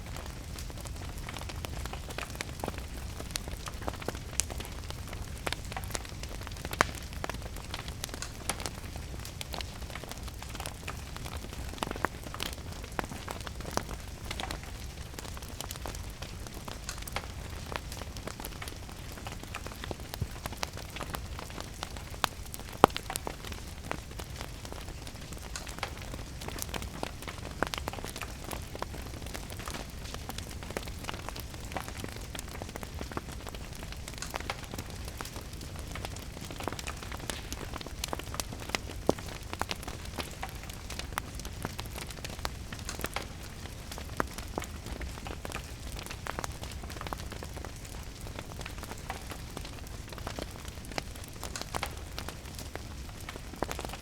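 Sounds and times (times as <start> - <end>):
steady rain: 0.0 - 54.0
wood fire crackling: 0.0 - 54.0.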